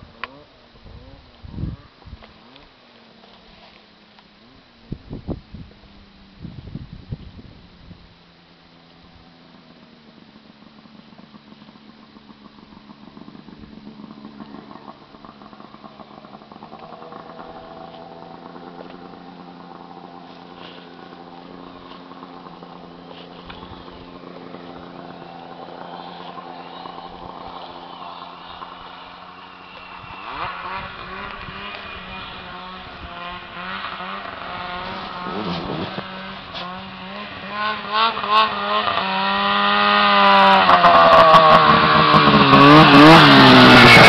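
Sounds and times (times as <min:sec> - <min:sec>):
snowmobile engine running: 0:07.7 - 0:44.0.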